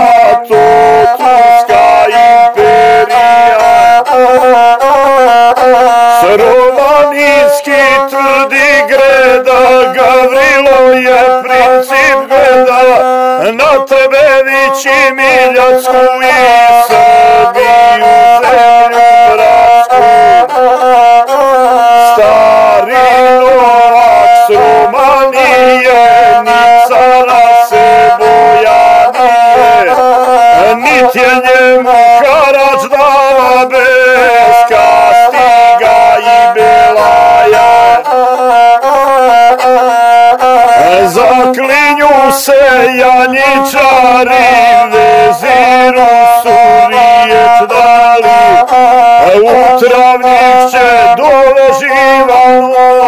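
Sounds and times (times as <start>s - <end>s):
bowed fiddle melody: 0.0s - 13.8s, 15.2s - 51.2s.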